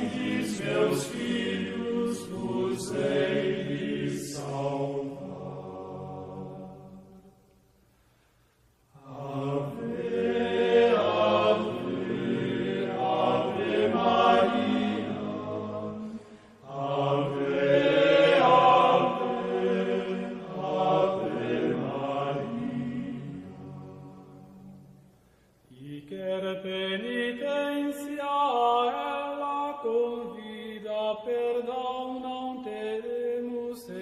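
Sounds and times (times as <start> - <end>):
slow chanted singing: 0.0 - 34.0.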